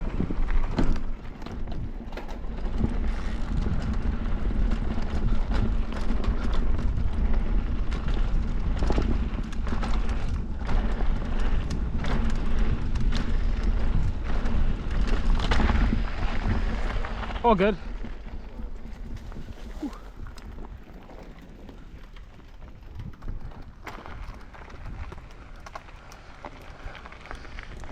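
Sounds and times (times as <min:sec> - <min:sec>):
bike knocks and rattles: 0:00.0 - 0:27.9
tyre noise: 0:00.0 - 0:27.9
wind buffeting microphone: 0:00.0 - 0:27.9.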